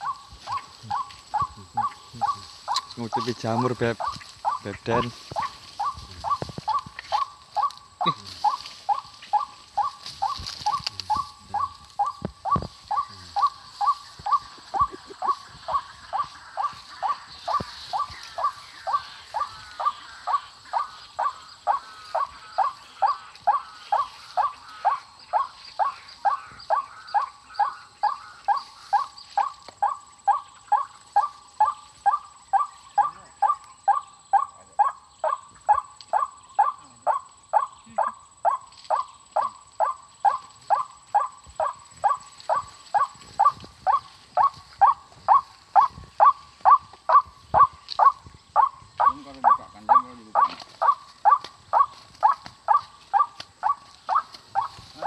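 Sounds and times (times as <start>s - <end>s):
waterhen calls: 0.0s - 55.0s.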